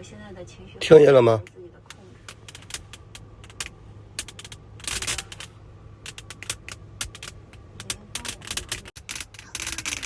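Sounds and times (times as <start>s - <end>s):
electrical crackling and clicking: 1.4s - 10.0s.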